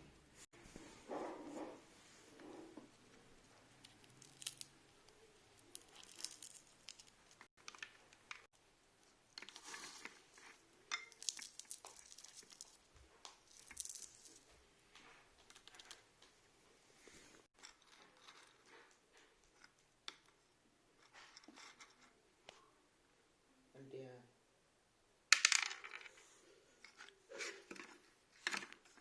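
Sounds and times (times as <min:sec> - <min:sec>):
faint crinkling and rustling: 0:00.4 - 0:22.7, 0:25.9 - 0:29.0.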